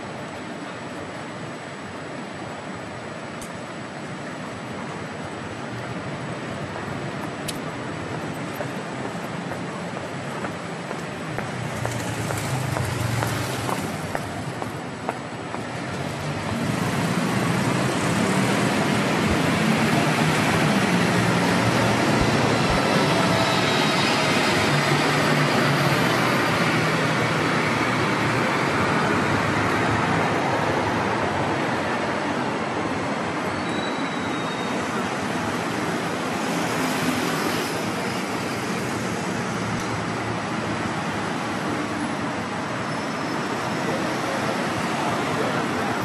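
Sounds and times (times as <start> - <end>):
road traffic rush: 0.0 - 46.0.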